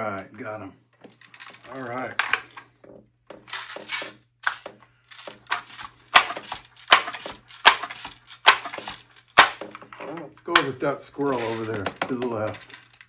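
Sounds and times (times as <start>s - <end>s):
air rifle mechanical clacks: 1.0s - 13.0s
light rattling: 1.0s - 13.0s.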